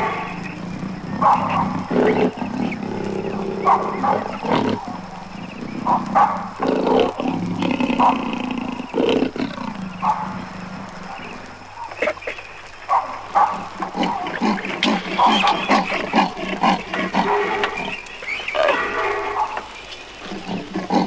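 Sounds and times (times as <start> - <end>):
wild animals calling: 0.0 - 21.0.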